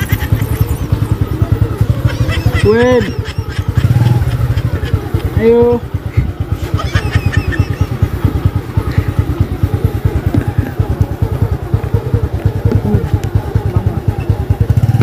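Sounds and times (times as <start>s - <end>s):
motorcycle engine putter: 0.0s - 15.0s.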